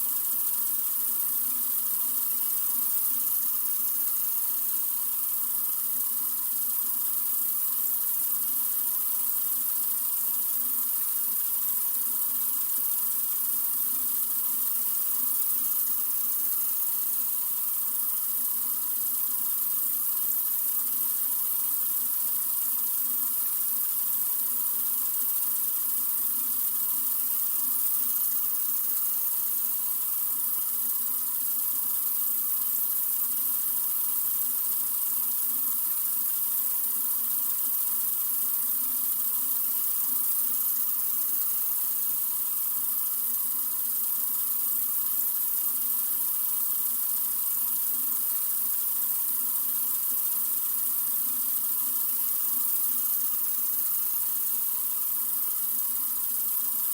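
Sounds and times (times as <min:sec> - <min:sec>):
sink faucet running: 0:00.0 - 0:56.9.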